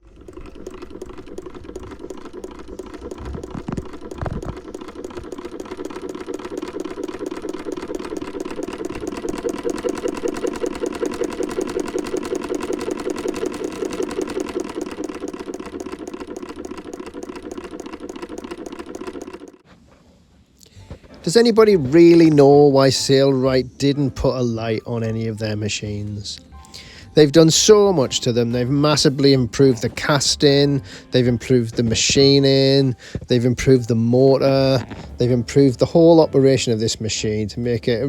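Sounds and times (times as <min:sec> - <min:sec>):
sewing machine needle clatter: 0:00.0 - 0:19.6, 0:27.2 - 0:38.0
sewing machine motor hum: 0:00.0 - 0:38.0.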